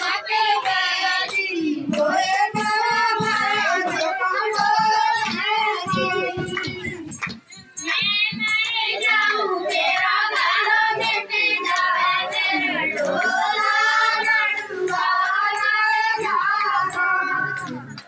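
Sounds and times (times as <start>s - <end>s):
hand claps keeping time: 0.0s - 18.0s.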